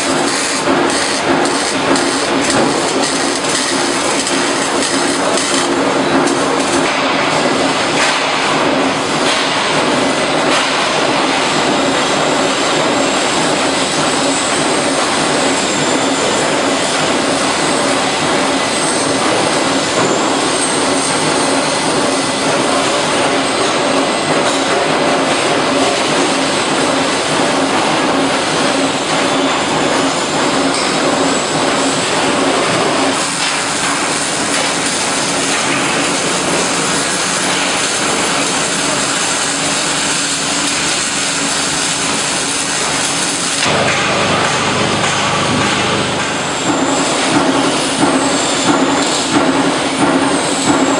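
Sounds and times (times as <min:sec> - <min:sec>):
machinery hiss and rumble: 0:00.0 - 0:50.9.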